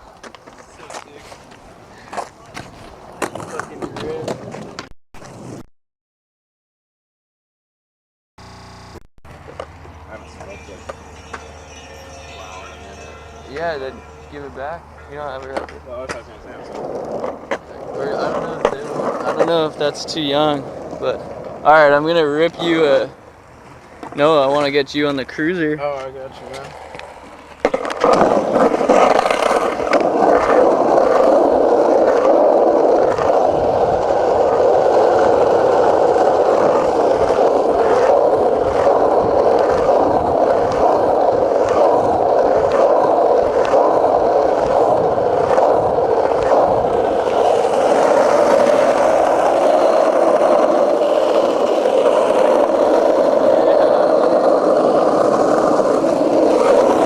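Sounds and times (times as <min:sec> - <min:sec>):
wheels clacking over pavement joints: 0:00.0 - 0:04.9, 0:09.3 - 0:57.0
skateboard wheels rolling on concrete: 0:00.0 - 0:05.6, 0:08.4 - 0:57.0.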